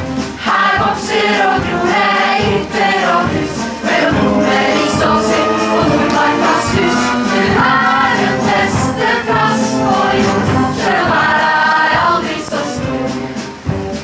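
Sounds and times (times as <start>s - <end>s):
instrumental accompaniment: 0.0s - 14.0s
choir singing: 0.4s - 13.6s.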